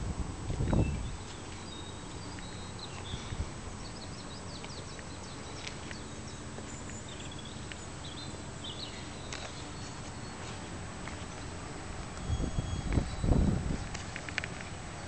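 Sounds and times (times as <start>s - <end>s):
steady low hum: 0.0s - 15.0s
small birds chirping and whistling: 0.6s - 15.0s.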